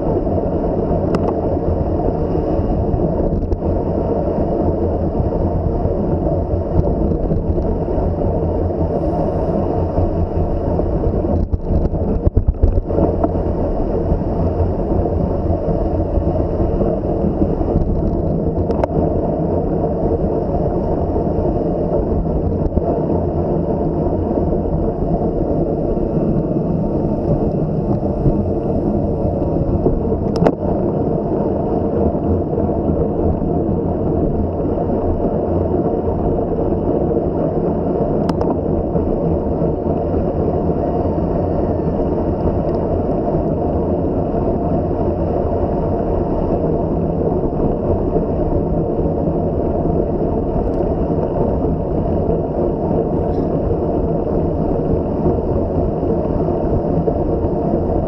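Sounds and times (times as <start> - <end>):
bicycle tyre noise: 0.0 - 58.0
wind buffeting microphone: 0.0 - 58.0.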